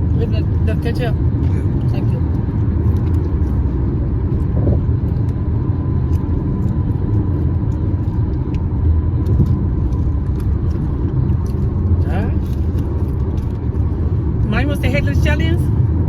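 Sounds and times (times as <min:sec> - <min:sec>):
road rumble inside moving car: 0:00.0 - 0:16.0.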